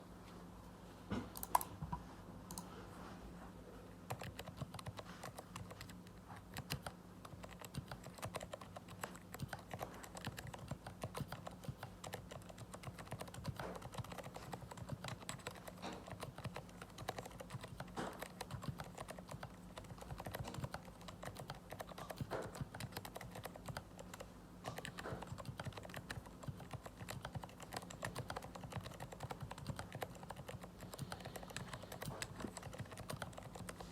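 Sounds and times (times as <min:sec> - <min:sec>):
typing on mechanical keyboard: 0:01.4 - 0:01.7, 0:04.1 - 0:33.9.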